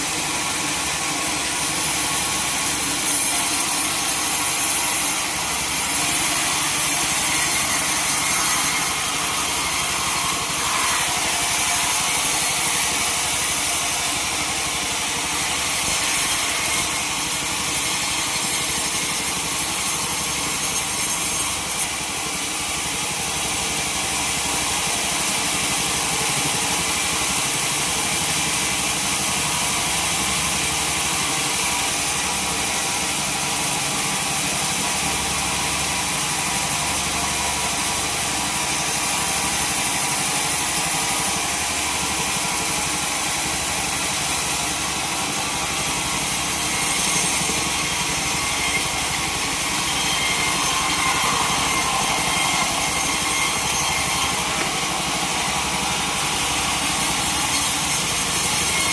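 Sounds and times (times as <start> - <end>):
saw blade cutting log: 0.0 - 58.9
sawmill engine running: 0.0 - 58.9.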